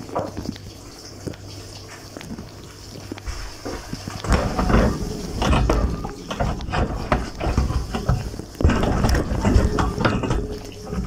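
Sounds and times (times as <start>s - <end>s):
dishwasher water splashing: 0.0s - 11.0s.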